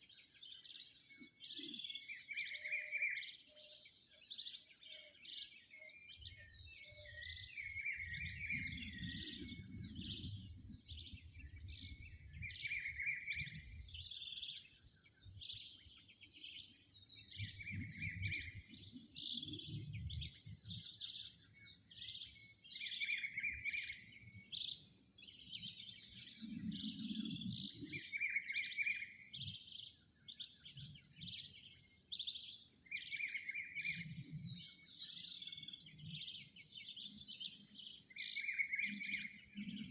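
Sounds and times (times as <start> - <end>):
birds singing dawn chorus: 0.0 - 39.9.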